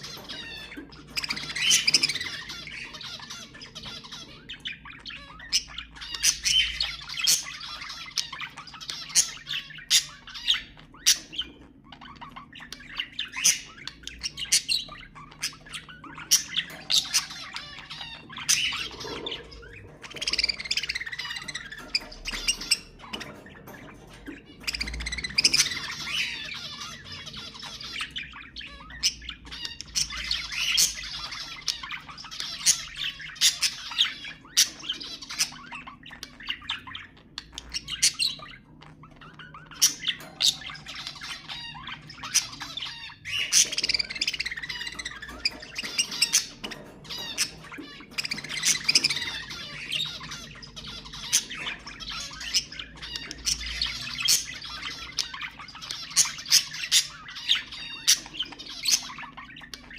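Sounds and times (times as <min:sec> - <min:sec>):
budgerigars chattering and chirping: 0:00.0 - 0:59.9.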